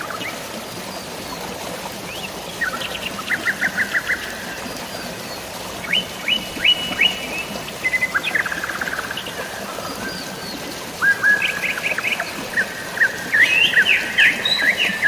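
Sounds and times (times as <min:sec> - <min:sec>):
running water hiss: 0:00.0 - 0:15.0
songbirds chirping: 0:00.0 - 0:15.0.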